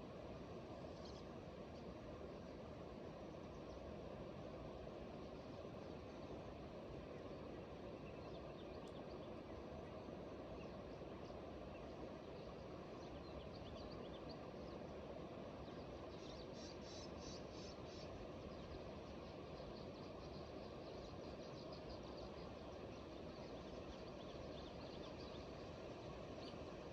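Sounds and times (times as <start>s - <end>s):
outdoor background hiss: 0.0s - 26.9s.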